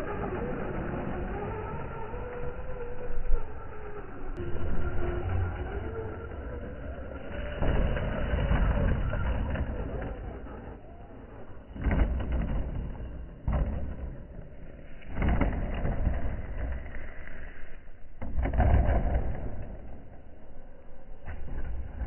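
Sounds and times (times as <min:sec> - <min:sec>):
toy truck tumbling: 0:00.0 - 0:22.0.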